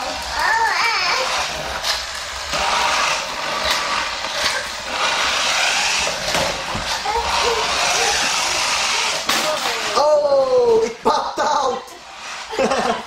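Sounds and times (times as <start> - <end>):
toy car motor whirring: 0.0 - 10.2, 12.0 - 12.9.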